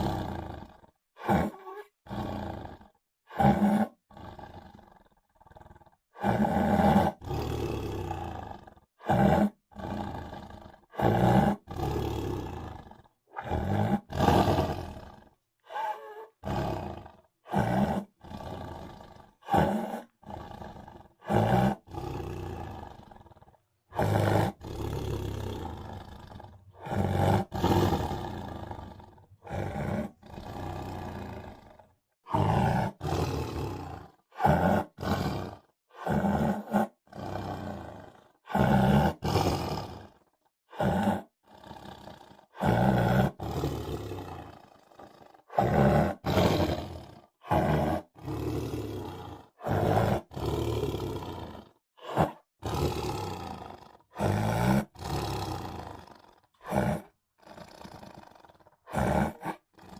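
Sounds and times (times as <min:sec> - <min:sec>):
tiger roars and growls: 0:00.0 - 0:59.9.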